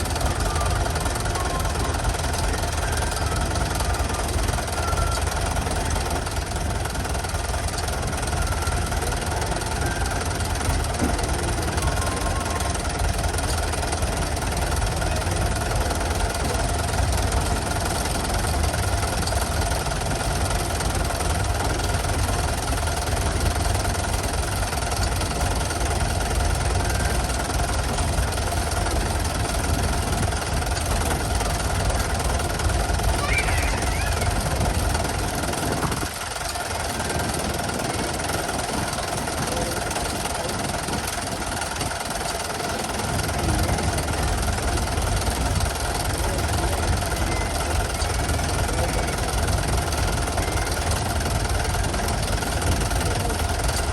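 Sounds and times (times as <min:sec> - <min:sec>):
engine idling with knocking: 0:00.0 - 0:53.9.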